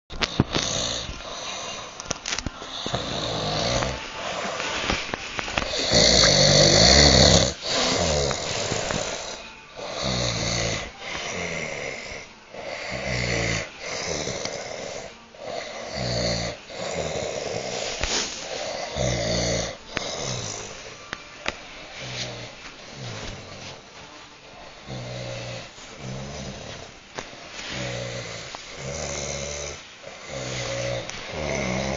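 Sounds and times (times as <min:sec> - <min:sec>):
person snoring loudly: 0:00.2 - 0:02.0, 0:02.6 - 0:05.0, 0:05.6 - 0:21.0, 0:22.0 - 0:23.7, 0:24.8 - 0:27.0, 0:27.7 - 0:31.9.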